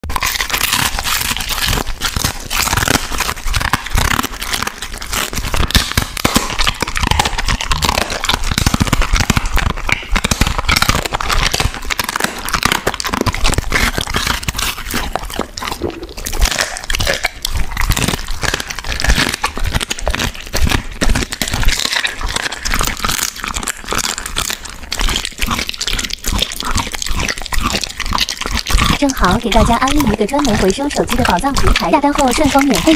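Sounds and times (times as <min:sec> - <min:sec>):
dog chewing and crunching food: 0:00.0 - 0:32.9.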